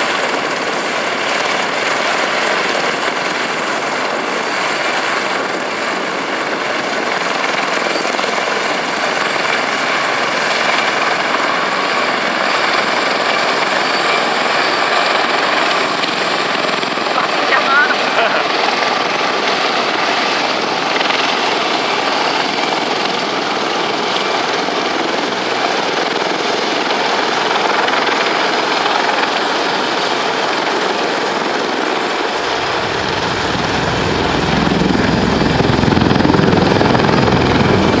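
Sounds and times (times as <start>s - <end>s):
jet engines rushing whine: 0.0s - 38.0s.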